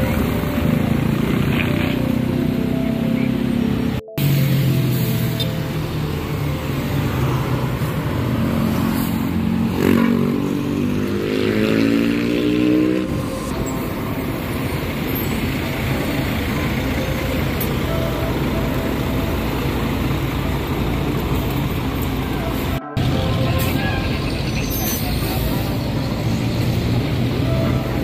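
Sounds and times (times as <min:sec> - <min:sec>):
bus engine revving: 0:00.0 - 0:28.0
cars and buses passing: 0:00.0 - 0:28.0.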